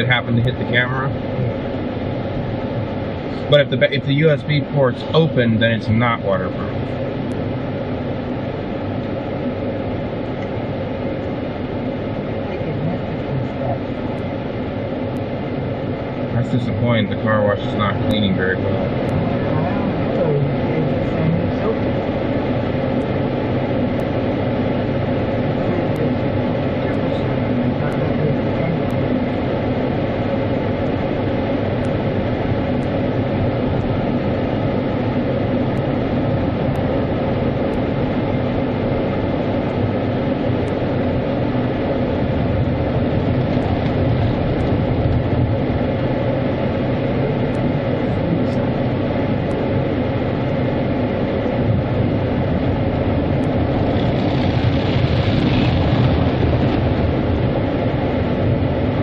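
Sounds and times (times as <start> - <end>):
car wash water spray and machinery: 0.0 - 59.0.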